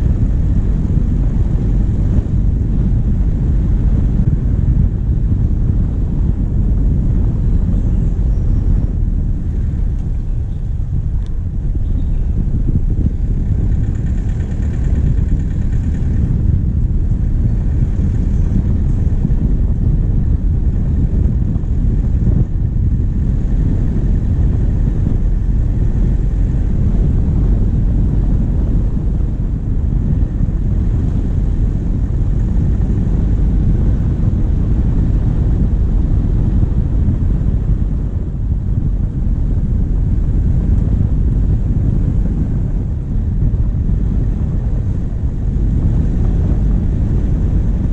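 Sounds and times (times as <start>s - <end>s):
diesel vehicle engine rumble: 0.0s - 47.9s
wind on microphone: 0.0s - 47.9s.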